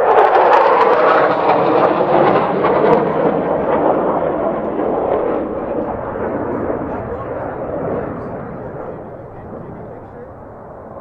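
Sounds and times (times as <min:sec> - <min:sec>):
jet aircraft roar: 0:00.0 - 0:11.0.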